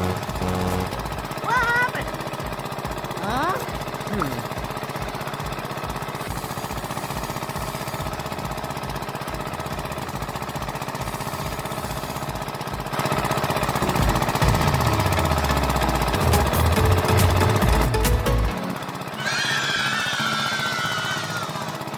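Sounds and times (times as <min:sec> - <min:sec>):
small motor rattling: 0:00.0 - 0:21.9.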